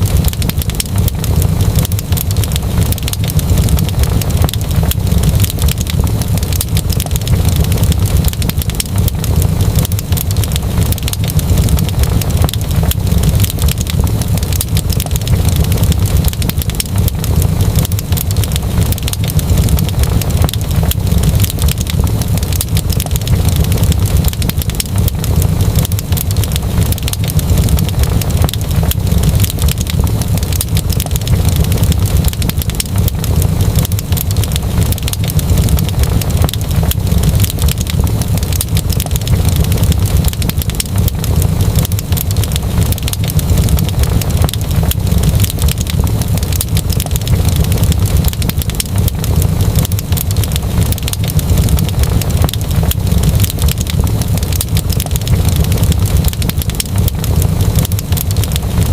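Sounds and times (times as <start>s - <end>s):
fireplace fire crackling: 0.0s - 58.9s.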